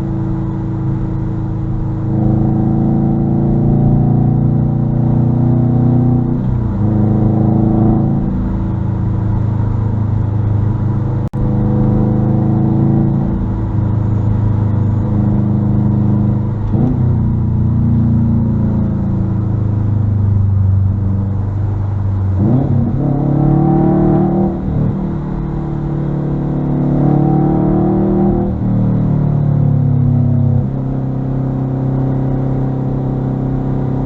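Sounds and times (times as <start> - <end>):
loud car engine drone: 0.0 - 34.0.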